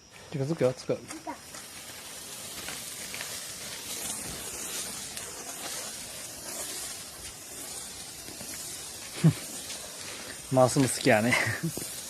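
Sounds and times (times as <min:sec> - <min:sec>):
firework hissing: 0:00.0 - 0:12.0.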